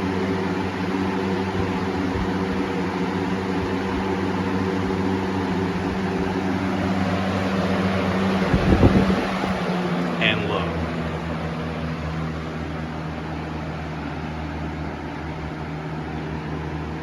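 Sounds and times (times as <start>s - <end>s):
box fan running: 0.0s - 17.0s.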